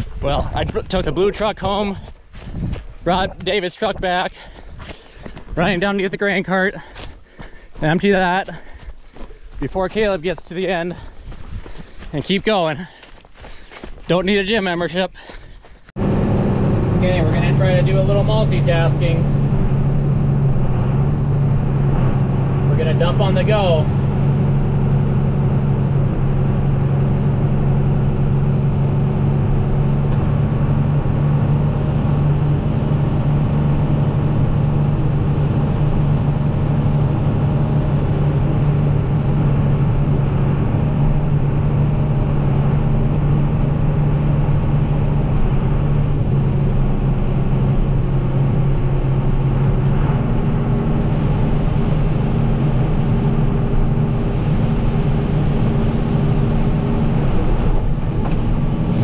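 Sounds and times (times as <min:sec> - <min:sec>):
tractor engine humming: 0:03.0 - 0:59.0.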